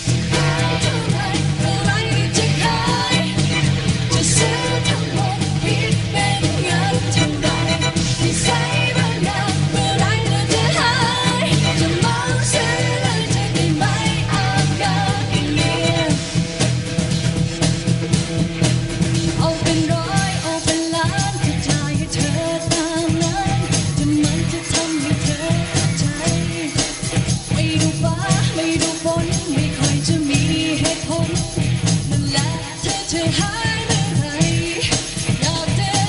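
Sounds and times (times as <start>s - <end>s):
live pop band playing: 0.0s - 36.0s
woman singing: 0.3s - 16.3s, 19.3s - 36.0s.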